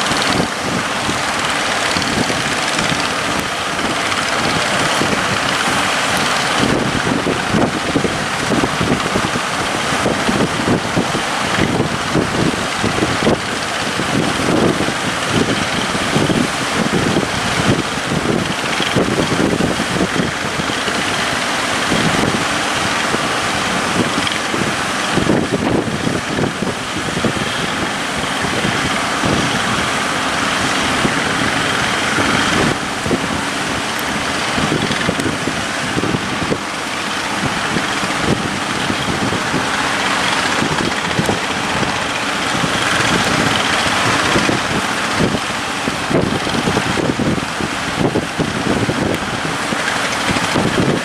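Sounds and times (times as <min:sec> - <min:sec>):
boat engine running: 0:00.0 - 0:51.0
sea water rushing: 0:00.0 - 0:51.0
wind buffeting microphone: 0:00.0 - 0:51.0.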